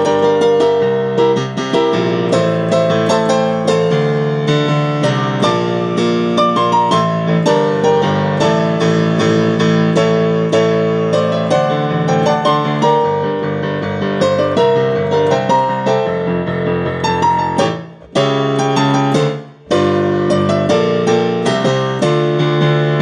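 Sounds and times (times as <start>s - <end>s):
solo piano pop arrangement: 0.0s - 23.0s.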